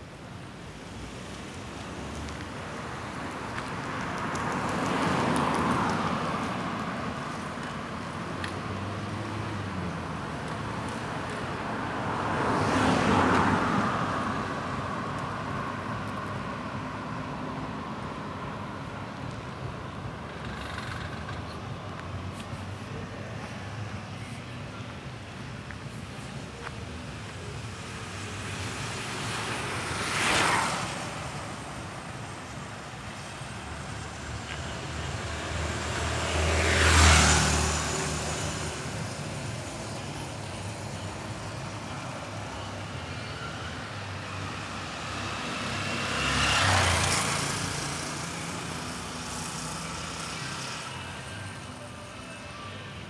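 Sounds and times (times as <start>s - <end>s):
vehicles passing close by: 0.0s - 53.0s.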